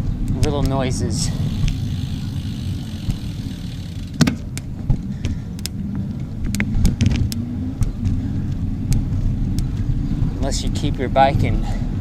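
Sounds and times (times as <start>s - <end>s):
bike clicks and ticks: 0.0s - 11.6s
wind and bicycle road rumble: 0.0s - 12.0s.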